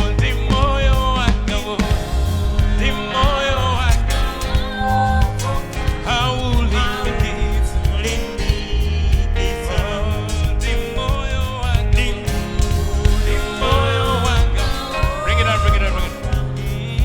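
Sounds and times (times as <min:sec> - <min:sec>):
drum hits: 0:00.0 - 0:17.0
gospel band playing: 0:00.0 - 0:17.0
heavy bass: 0:00.0 - 0:17.0
voices singing: 0:00.0 - 0:17.0.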